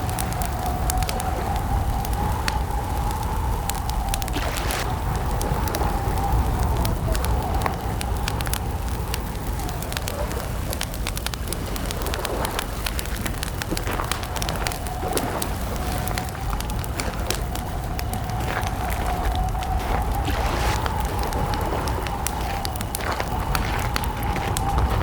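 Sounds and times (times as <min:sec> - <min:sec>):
campfire pops and snaps: 0:00.0 - 0:25.0
steady low rumble: 0:00.0 - 0:25.0.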